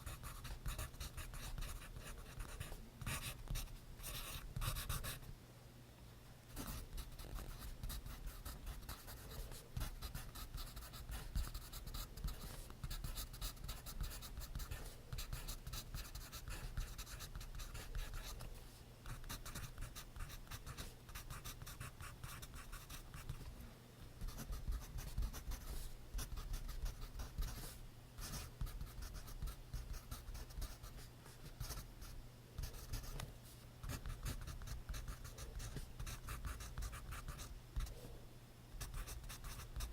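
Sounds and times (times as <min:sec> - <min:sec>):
pencil writing on paper: 0:00.0 - 0:05.2, 0:06.6 - 0:18.4, 0:19.1 - 0:23.4, 0:24.2 - 0:31.9, 0:32.6 - 0:33.2, 0:33.8 - 0:37.9, 0:38.8 - 0:39.9.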